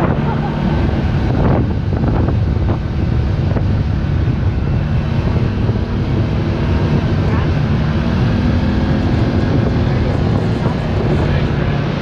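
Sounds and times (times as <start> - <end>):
utv engine running: 0.0 - 12.0
wind buffeting microphone: 0.0 - 12.0.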